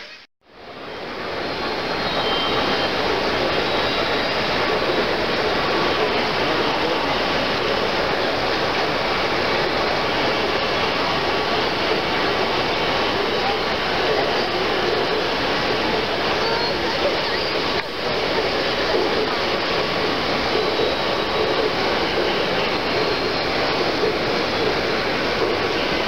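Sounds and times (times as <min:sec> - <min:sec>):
crowded hall din: 0:01.2 - 0:26.0.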